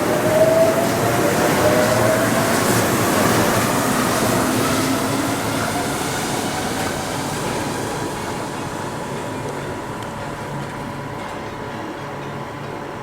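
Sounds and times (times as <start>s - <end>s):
monorail train rushing: 0.0s - 13.0s.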